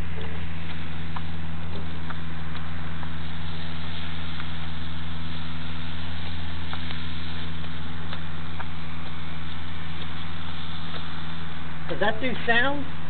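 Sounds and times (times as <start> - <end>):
model airplane engine idling: 0.0 - 13.0.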